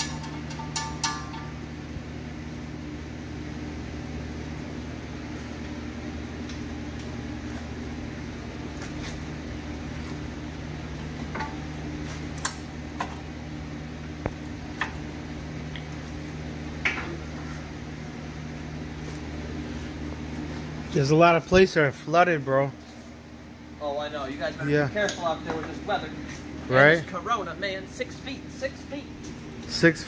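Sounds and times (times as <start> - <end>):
shop equipment humming: 0.0 - 30.0.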